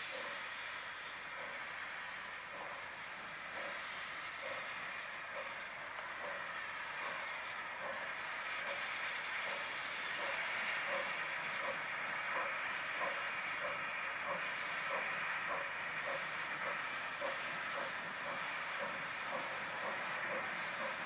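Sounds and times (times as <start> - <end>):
steady hiss of steam: 0.0 - 21.0
steam locomotive exhaust chuffing: 0.0 - 21.0.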